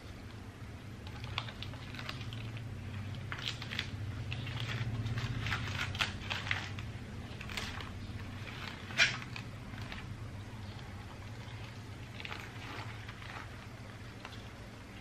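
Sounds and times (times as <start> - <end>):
leaf wrapping rustling and crackling: 0.0 - 15.0
steady low hum: 0.0 - 15.0.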